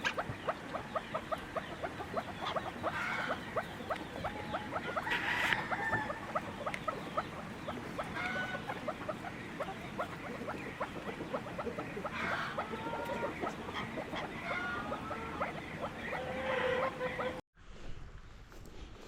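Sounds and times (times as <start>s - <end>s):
longer bird calls: 0.0s - 17.4s
poultry chicks chirping: 0.0s - 17.4s.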